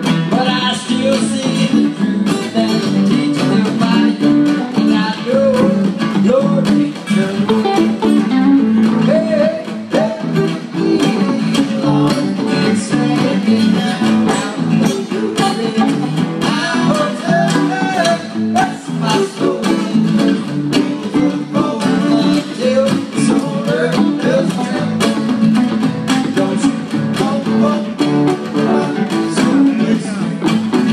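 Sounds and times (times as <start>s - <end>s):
guitar strummed: 0.0s - 30.9s.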